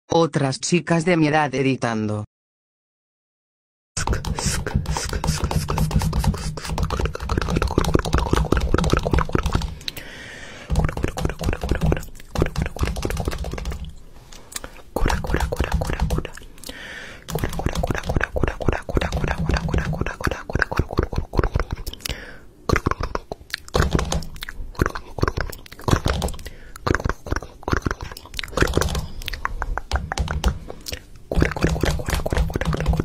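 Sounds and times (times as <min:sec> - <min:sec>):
beatbox clicks and smacks: 0:04.0 - 0:10.1, 0:10.7 - 0:33.0.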